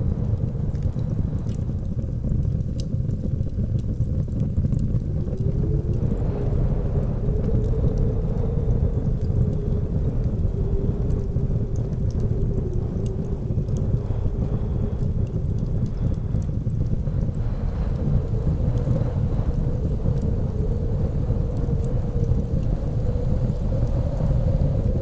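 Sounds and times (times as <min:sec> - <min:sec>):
blizzard wind rumbling: 0:00.0 - 0:25.0
wood fire crackling: 0:00.0 - 0:25.0
wind whistling: 0:04.5 - 0:25.0.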